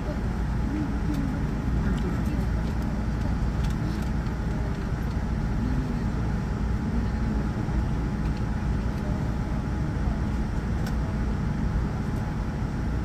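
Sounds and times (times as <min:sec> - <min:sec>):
aircraft cabin rumble: 0:00.0 - 0:13.0
faint steady whine: 0:00.0 - 0:13.0.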